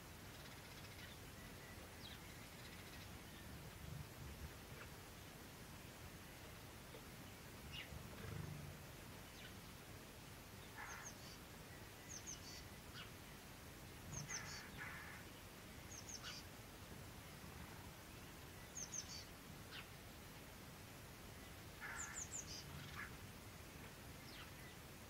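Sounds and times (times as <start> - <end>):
small birds chirping: 0.2 - 5.3, 6.2 - 9.7, 10.5 - 20.0, 21.4 - 24.9.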